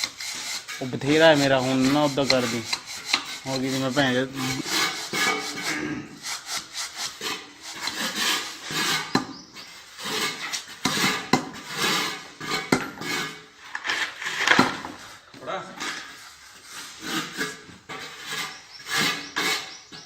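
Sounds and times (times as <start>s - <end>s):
rough scraping on a surface: 0.0s - 20.0s.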